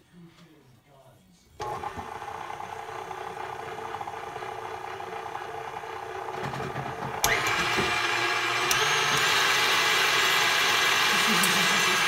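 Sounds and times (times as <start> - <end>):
stand mixer motor humming: 1.6 - 12.0.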